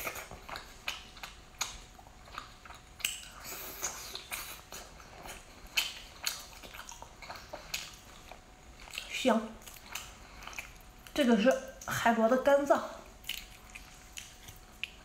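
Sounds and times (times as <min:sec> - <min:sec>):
wet crackles and squelches of meat: 0:00.0 - 0:15.0.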